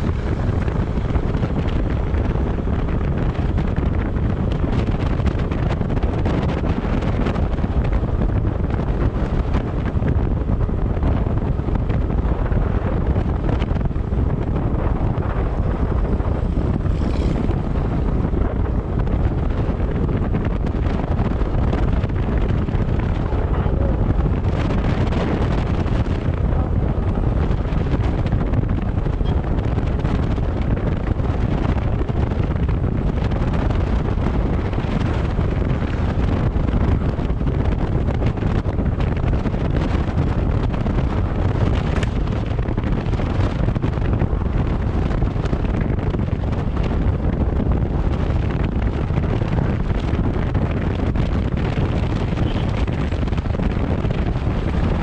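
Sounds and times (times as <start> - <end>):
road noise: 0.0 - 55.0
vehicle engine: 0.0 - 55.0
wind rushing over microphone: 0.0 - 55.0.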